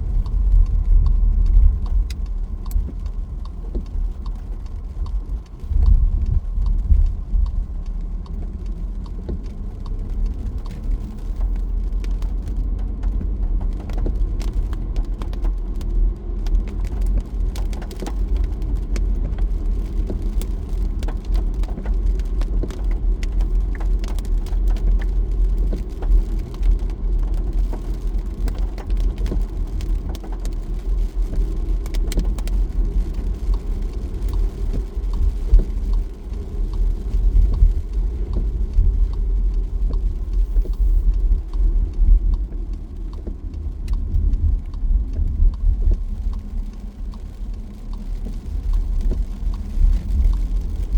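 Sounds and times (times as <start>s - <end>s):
car road and engine rumble: 0.0s - 50.9s
raindrops ticking on car: 0.0s - 50.9s.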